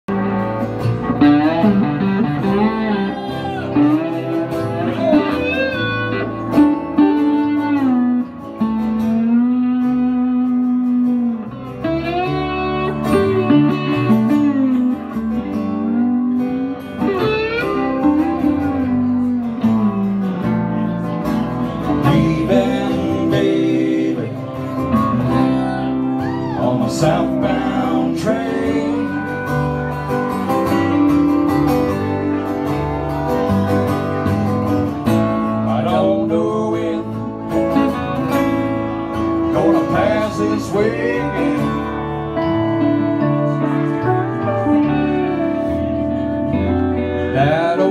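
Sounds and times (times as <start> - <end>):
pedal steel guitar sliding notes: 0.1 - 47.8
live country band playing: 0.1 - 47.9.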